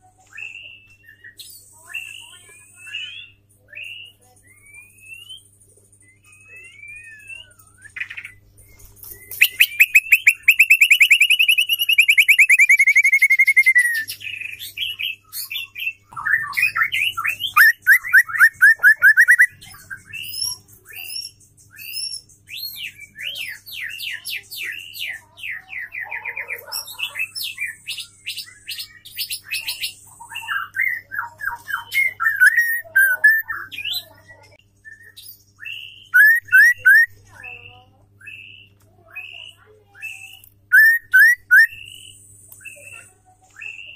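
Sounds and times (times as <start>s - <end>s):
bird singing trills and whistles: 0.2s - 43.9s.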